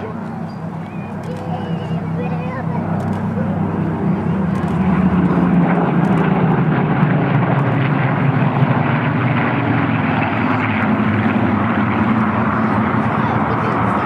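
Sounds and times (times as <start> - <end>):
propeller planes droning past: 0.0 - 14.0.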